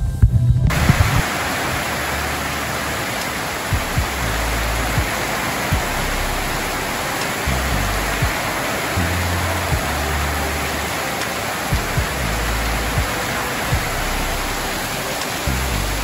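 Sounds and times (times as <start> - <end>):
low thumps of drops: 0.0 - 16.0
heavy rain on foliage: 0.7 - 16.0.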